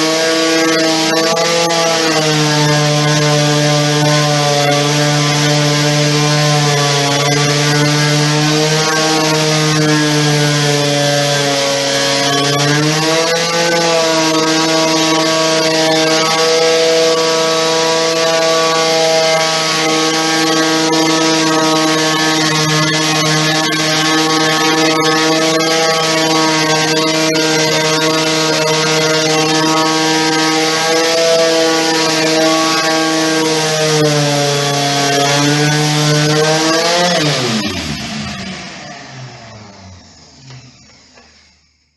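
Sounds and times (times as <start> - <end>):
electric sander running: 0.0 - 41.4.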